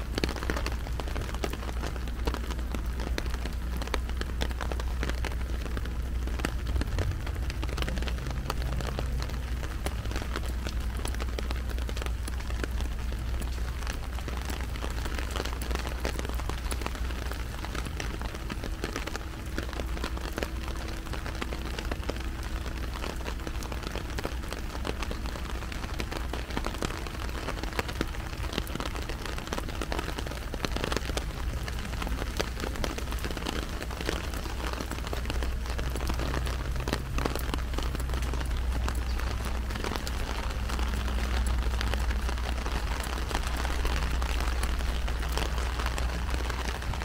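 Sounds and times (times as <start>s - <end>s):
heavy rain on an umbrella: 0.0s - 47.0s
steady low rumble: 0.0s - 47.0s.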